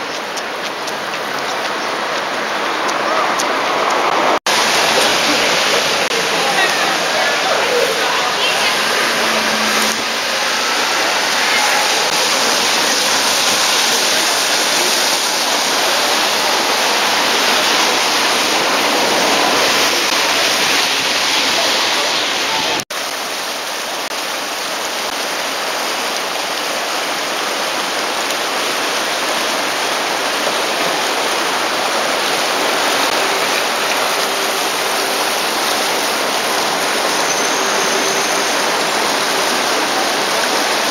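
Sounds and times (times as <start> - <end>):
river current rushing: 0.0 - 40.9.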